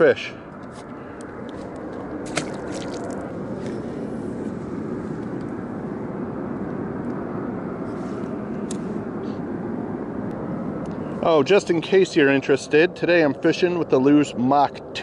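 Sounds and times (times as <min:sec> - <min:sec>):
distant engine rumble: 0:00.0 - 0:15.0.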